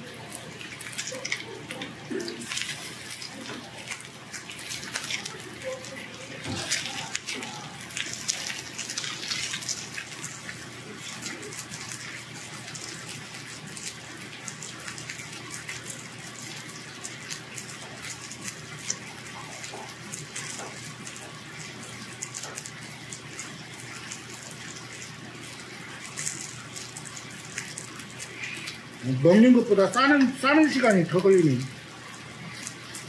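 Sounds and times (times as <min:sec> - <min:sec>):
meat sizzling on a grill: 0:00.0 - 0:33.0.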